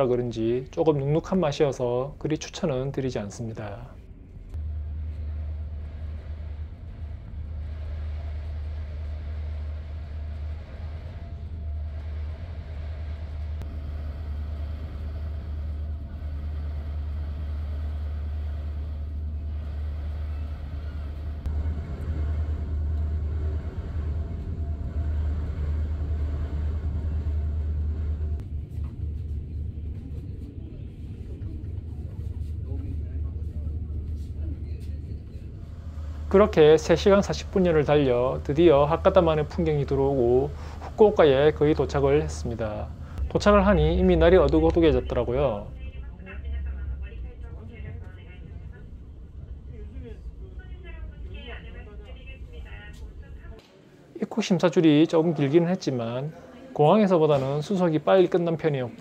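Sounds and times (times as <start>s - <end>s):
ferry engine rumble: 0.0s - 53.6s
faint hum: 0.0s - 59.0s.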